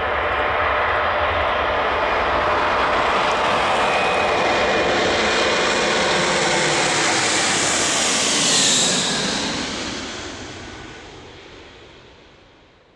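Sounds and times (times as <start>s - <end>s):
loud jet engine roar: 0.0s - 12.5s
high jet engine whine: 0.0s - 12.9s.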